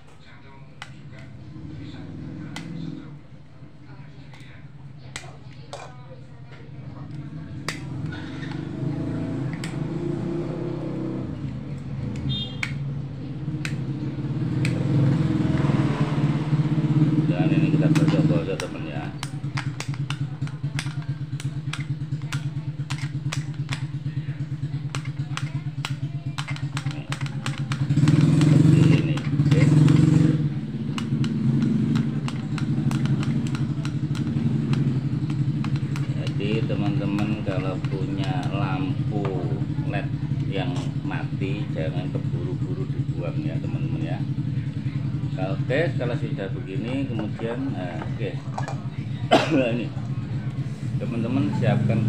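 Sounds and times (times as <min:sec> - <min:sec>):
engine running: 0:06.8 - 0:52.0.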